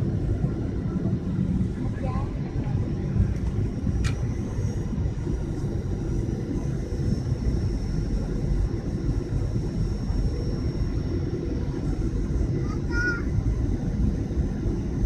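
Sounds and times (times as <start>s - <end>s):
airliner cabin engine rush: 0.0s - 15.0s.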